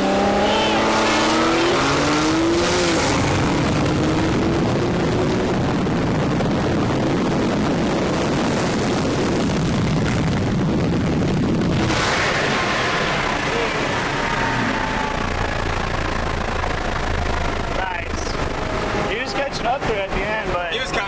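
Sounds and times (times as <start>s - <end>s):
heavy wind rush: 0.0s - 21.0s
sports car engines at full throttle: 0.0s - 21.0s.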